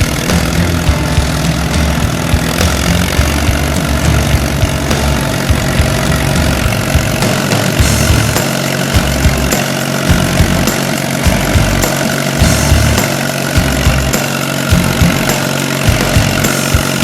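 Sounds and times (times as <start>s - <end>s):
tractor engine running at low speed: 0.0s - 17.0s.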